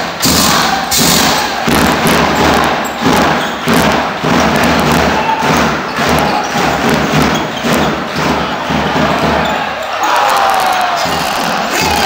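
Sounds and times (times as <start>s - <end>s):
loud crowd noise: 0.0s - 12.0s.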